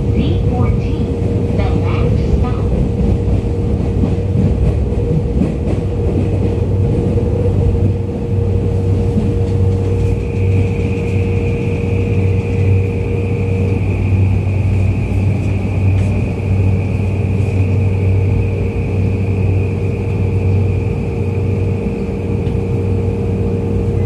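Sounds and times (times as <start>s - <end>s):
train wheels rumbling in tunnel: 0.0s - 24.0s.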